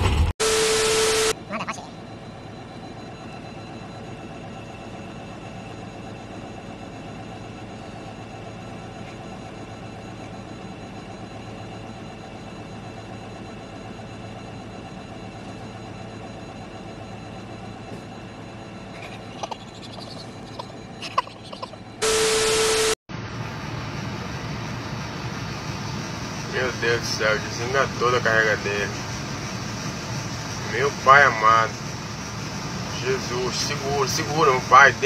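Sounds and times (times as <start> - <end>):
engine and outdoor noise: 0.0 - 35.0
heavy equipment engine running: 0.0 - 35.0.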